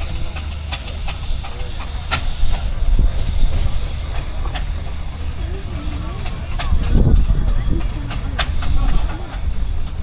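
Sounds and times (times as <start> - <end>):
low machinery rumble: 0.0 - 10.0
steam hissing: 0.0 - 10.0.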